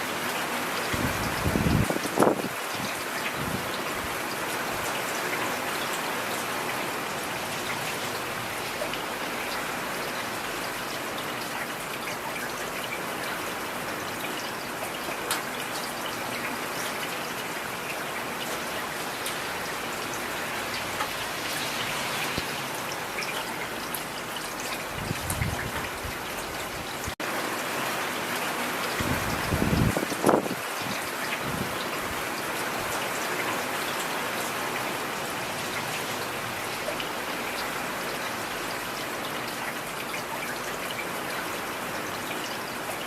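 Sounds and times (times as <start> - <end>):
heavy rain: 0.0 - 43.0
raindrops pattering on a surface: 0.0 - 43.0.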